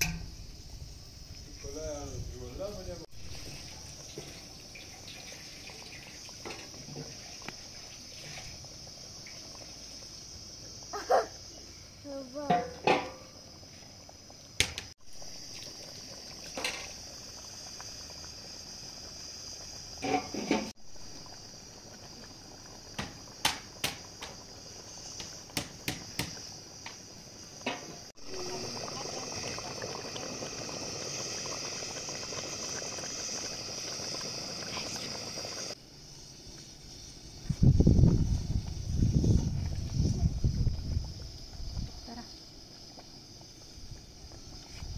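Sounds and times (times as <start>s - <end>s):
thick puree bubbling and popping: 2.7s - 44.9s.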